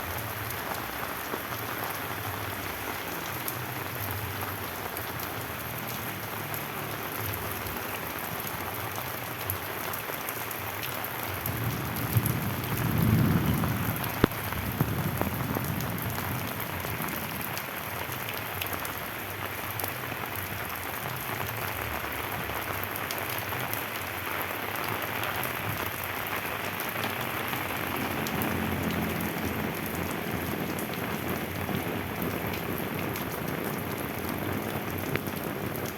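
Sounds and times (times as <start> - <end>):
rain pattering on bamboo: 0.0 - 35.9.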